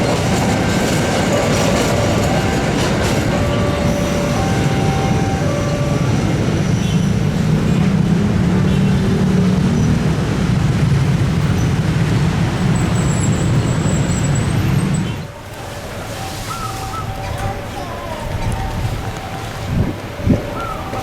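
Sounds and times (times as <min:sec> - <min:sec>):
train wagons rumbling over rails: 0:00.0 - 0:21.0.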